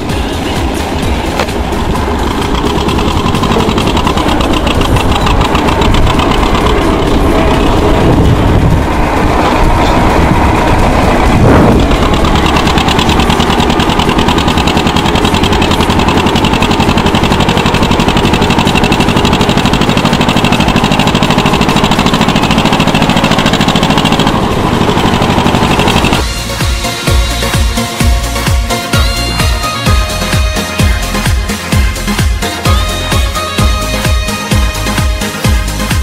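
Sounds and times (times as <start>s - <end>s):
electronic music: 0.0s - 36.0s
tractor diesel engine running: 0.0s - 36.0s.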